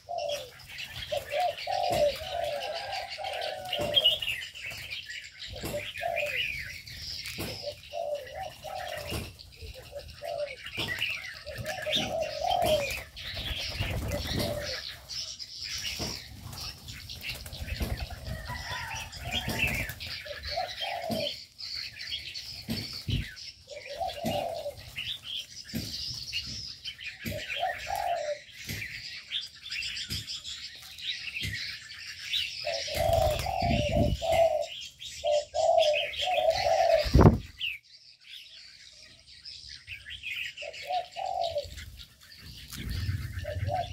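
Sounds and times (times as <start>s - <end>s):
doves cooing: 0.0s - 37.7s, 40.0s - 43.9s
small birds twittering: 0.0s - 43.9s.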